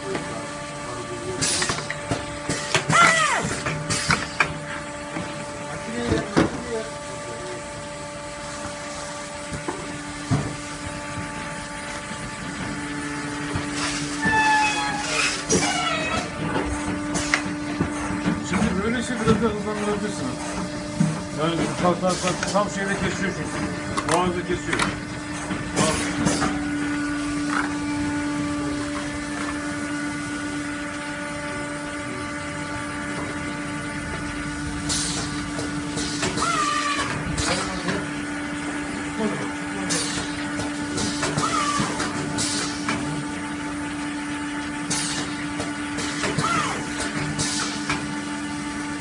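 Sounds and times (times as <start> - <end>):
filling machine humming: 0.0 - 49.0.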